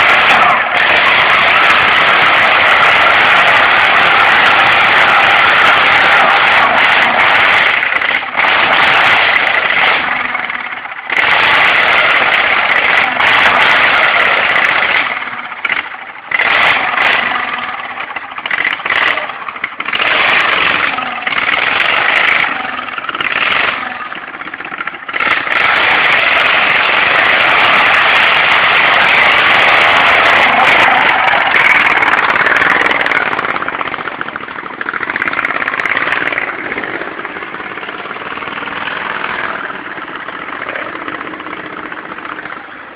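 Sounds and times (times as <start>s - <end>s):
lawn mower engines revving: 0.0s - 42.9s.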